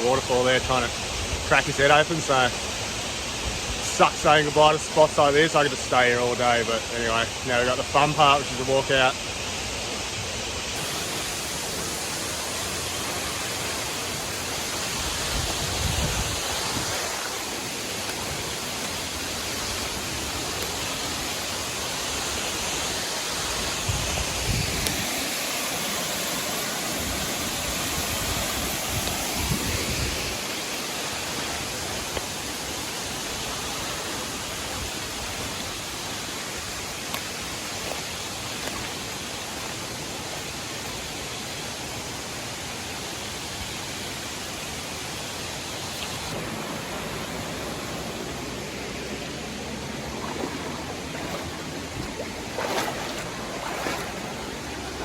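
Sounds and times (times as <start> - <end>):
waterfall and creek rushing: 0.0 - 55.0.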